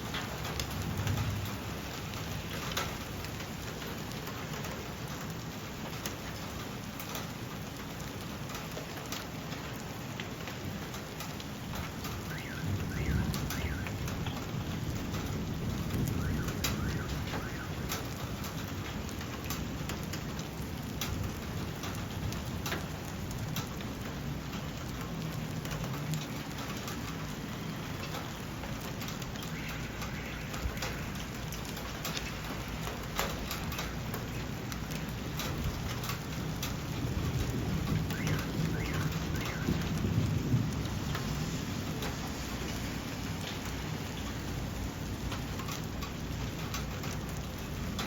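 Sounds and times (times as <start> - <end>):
raindrops ticking on a surface: 0.0 - 48.0
steady rain falling: 0.0 - 48.0.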